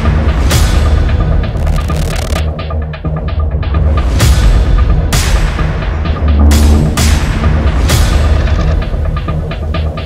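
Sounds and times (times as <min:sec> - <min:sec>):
dramatic music with heavy bass: 0:00.0 - 0:10.0.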